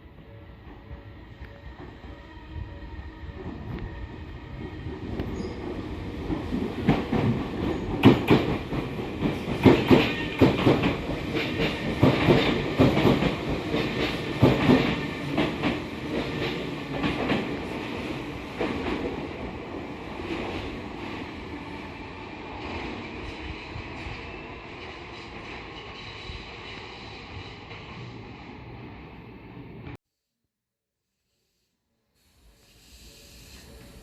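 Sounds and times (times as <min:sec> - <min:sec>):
train passing slowly: 0:00.0 - 0:30.0, 0:32.2 - 0:34.0.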